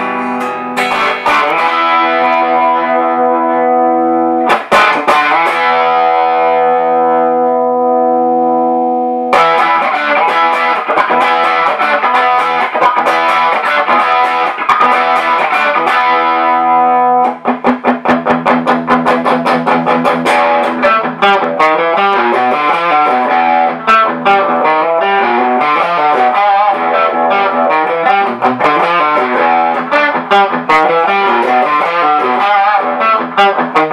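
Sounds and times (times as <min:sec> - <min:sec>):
electric guitar chords and riffs: 0:00.0 - 0:33.9.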